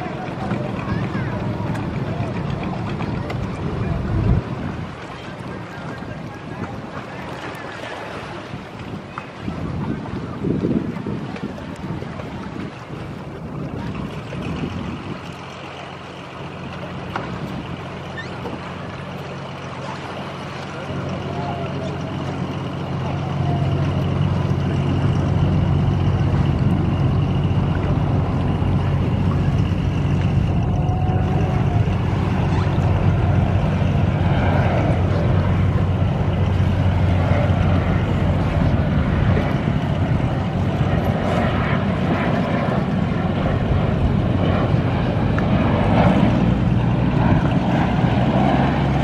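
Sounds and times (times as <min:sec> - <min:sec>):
jet engines droning: 0:00.0 - 0:49.0
wind on microphone: 0:00.0 - 0:49.0.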